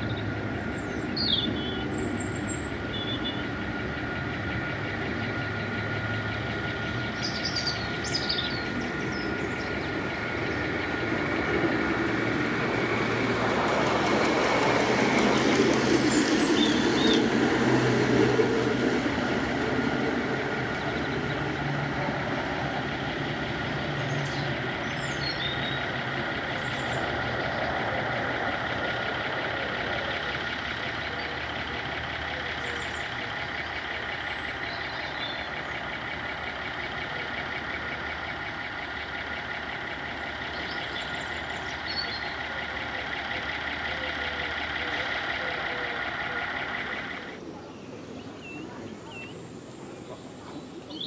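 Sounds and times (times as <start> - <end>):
birds chirping: 0.0 - 51.0
diesel train engine droning: 0.0 - 51.0.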